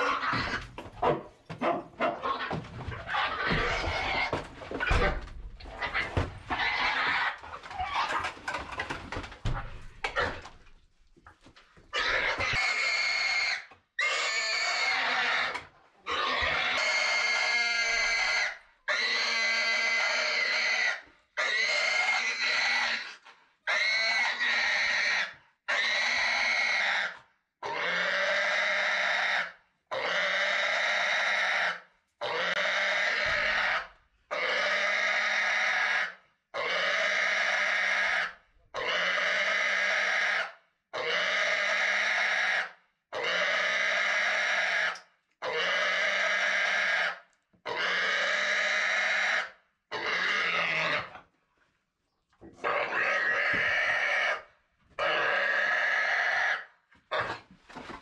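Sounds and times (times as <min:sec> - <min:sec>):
pig squealing: 0:00.0 - 0:08.4, 0:11.9 - 0:51.2, 0:52.6 - 0:57.5.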